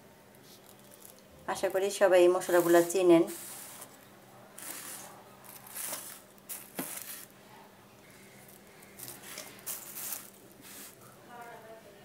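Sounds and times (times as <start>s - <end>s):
faint steady hum: 0.0s - 12.0s
soft handling rustles and scrapes: 0.4s - 1.2s, 2.4s - 11.6s.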